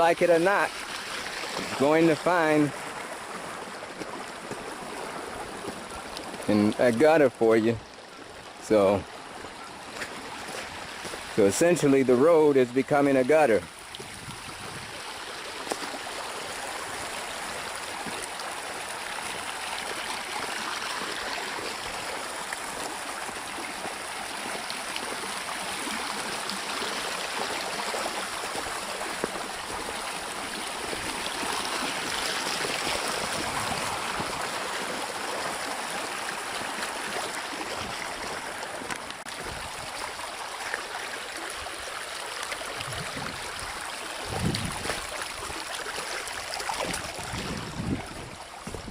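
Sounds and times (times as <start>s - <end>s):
rainwater rushing down road: 0.0s - 48.9s.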